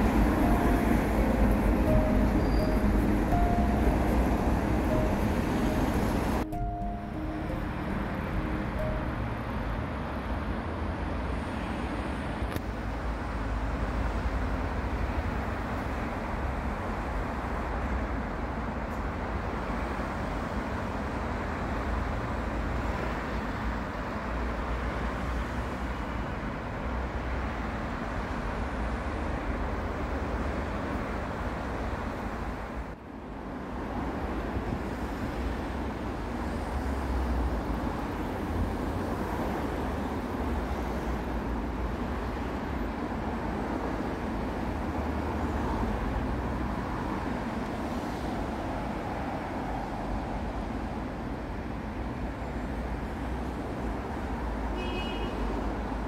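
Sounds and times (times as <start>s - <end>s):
heavy road traffic: 0.0s - 56.0s.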